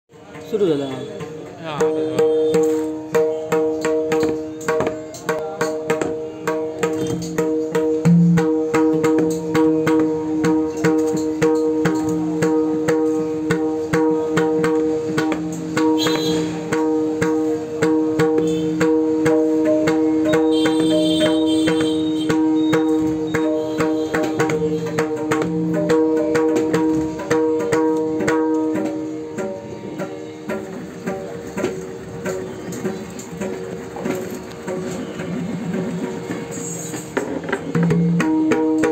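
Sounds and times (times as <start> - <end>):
hand drum fingertip strokes: 1.2 - 38.9.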